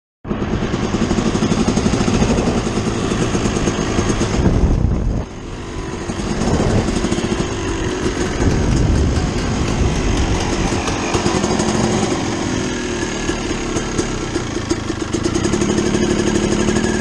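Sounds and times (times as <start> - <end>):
dirt bike engines running: 0.3 - 17.0.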